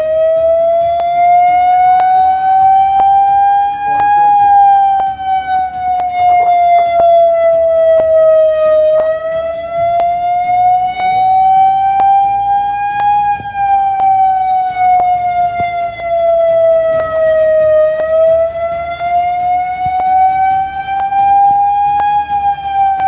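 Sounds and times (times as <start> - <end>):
warning siren wailing: 0.0 - 23.0.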